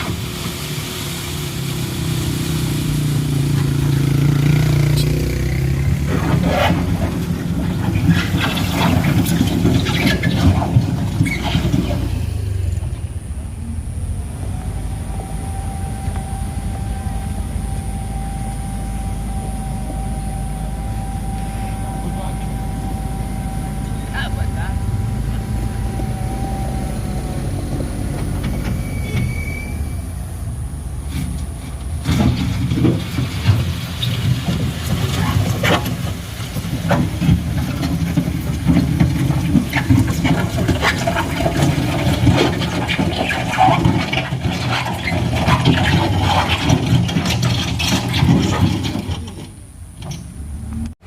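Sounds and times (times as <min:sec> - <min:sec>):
truck engine drone: 0:00.0 - 0:51.0.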